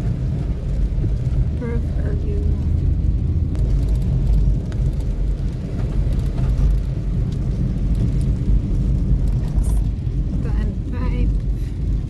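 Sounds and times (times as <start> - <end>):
moving car rumble: 0.0 - 12.0.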